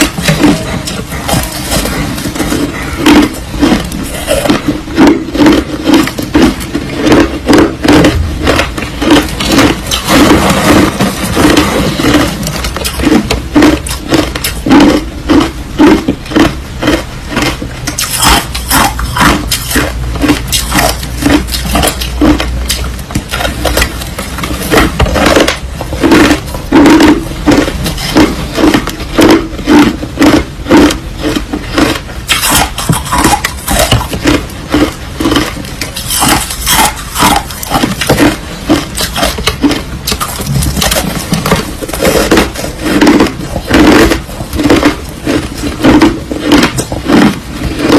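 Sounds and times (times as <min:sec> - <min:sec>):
ice crunching while chewing: 0:00.0 - 0:47.9.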